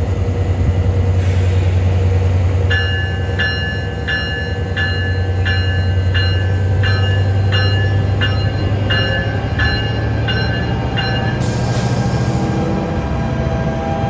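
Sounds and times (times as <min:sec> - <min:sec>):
diesel train rumbling: 0:00.0 - 0:14.0
railroad bell ringing: 0:02.6 - 0:13.9.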